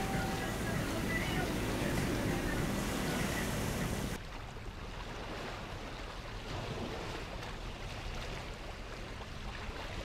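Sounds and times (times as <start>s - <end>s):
water rushing past boat: 0.0s - 10.0s.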